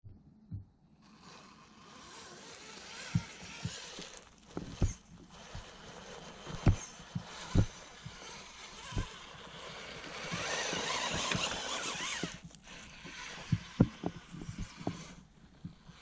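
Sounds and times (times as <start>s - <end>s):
electric motor whining: 1.0s - 16.0s.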